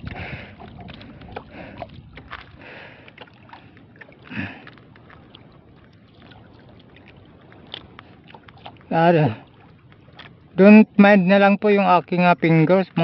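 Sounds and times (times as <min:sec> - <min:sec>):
water lapping around boat: 0:00.0 - 0:13.0.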